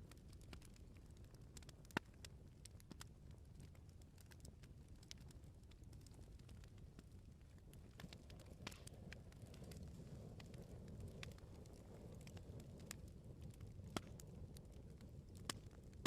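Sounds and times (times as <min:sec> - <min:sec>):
firewood crackles and pops: 0:00.0 - 0:16.0
low rumble of flames: 0:00.0 - 0:16.0.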